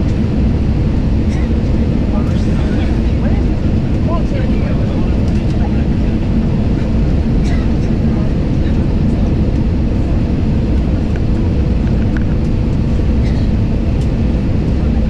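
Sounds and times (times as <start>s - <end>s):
airliner cabin engine roar: 0.0s - 15.0s.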